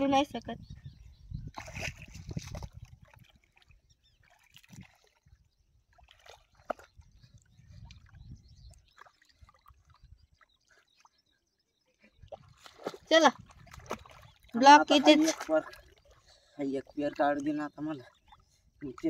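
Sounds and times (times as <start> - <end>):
feet wading in muddy water: 1.4 - 19.0.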